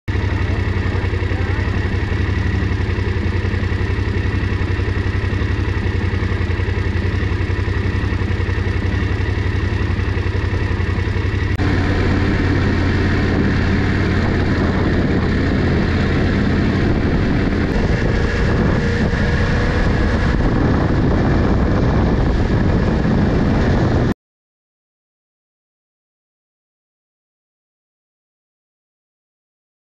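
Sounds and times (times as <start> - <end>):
motorcycle engine idling: 0.1 - 24.1
motorcycle riding: 0.1 - 24.2.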